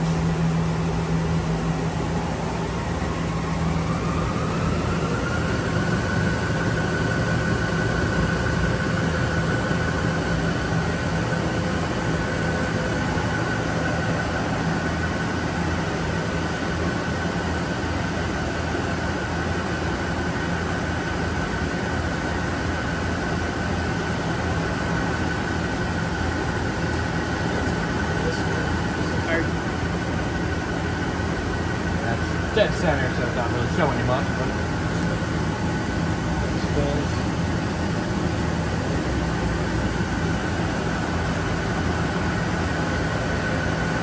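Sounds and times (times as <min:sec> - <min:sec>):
machinery low hum: 0:00.0 - 0:44.0
thin steady whine: 0:00.0 - 0:44.0.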